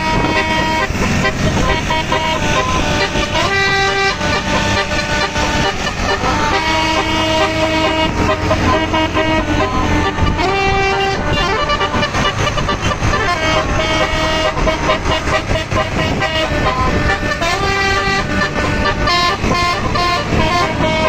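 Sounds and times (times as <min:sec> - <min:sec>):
bus musical air horn: 0:00.0 - 0:21.0
traffic noise: 0:00.0 - 0:21.0.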